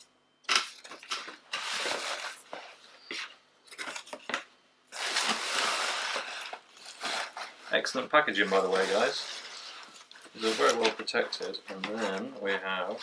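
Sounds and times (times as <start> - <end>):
paper packing rustling and crinkling: 0.5 - 13.0.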